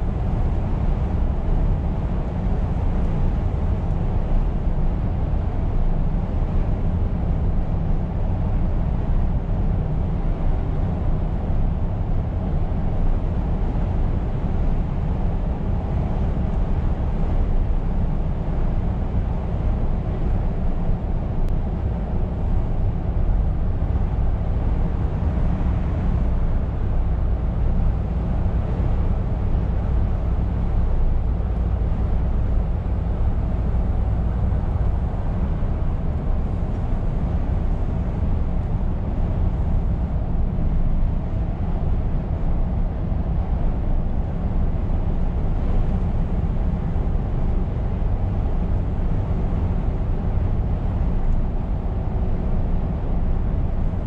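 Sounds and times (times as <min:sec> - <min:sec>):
low truck engine drone: 0:00.0 - 0:54.0
road and tyre noise: 0:00.0 - 0:54.0.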